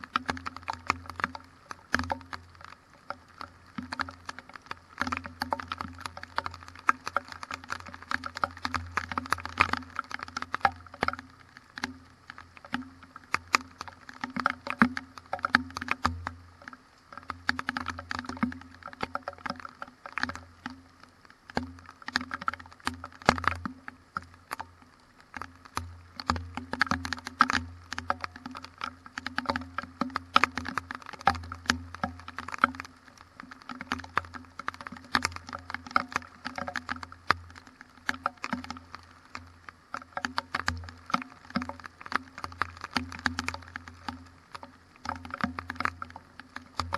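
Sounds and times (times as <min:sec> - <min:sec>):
rain pattering: 0:00.0 - 0:46.9.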